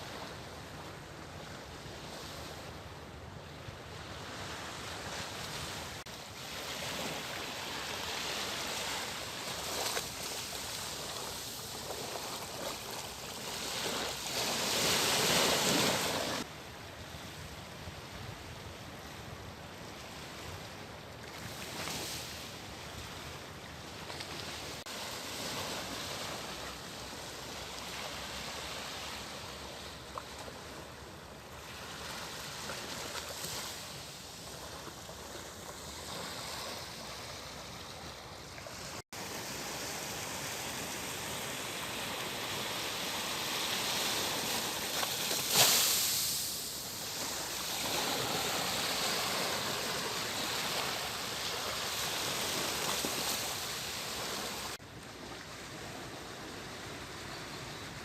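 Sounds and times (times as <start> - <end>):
wind: 0.0 - 58.0.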